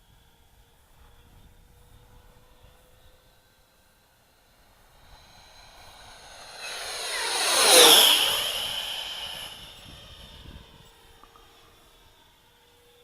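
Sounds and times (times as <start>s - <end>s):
model jet fan whine passing: 0.0s - 13.0s.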